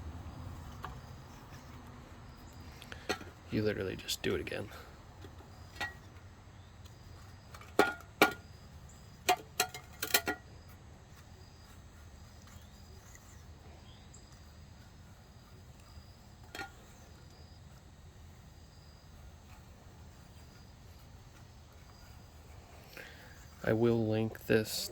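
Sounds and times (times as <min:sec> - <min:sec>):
faint insect chirping: 0:00.0 - 0:24.9
low steady hum: 0:00.0 - 0:24.9.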